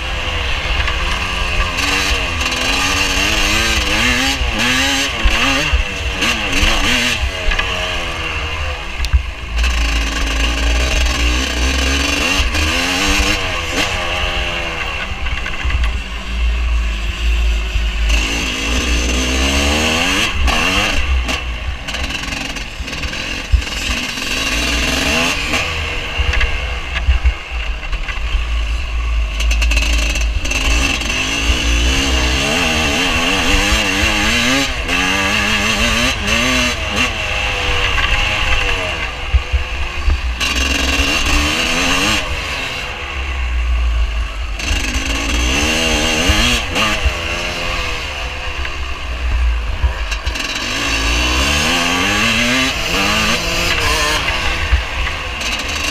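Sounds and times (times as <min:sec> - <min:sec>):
motocross bike engine: 0:00.0 - 0:55.9.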